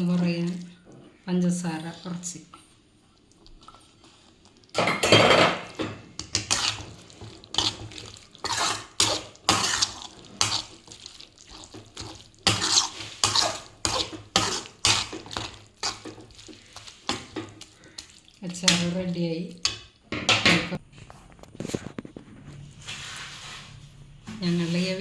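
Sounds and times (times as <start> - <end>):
spoon scraping a pan: 3.6 - 25.0.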